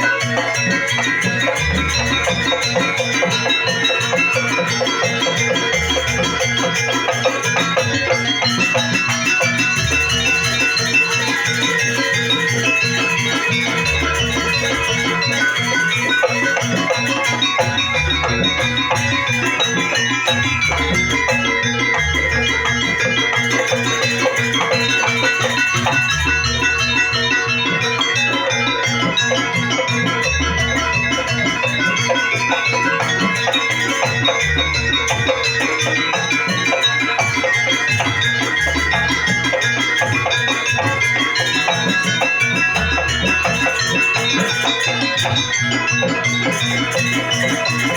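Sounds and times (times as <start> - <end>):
drums and metal percussion ensemble: 0.0 - 47.9.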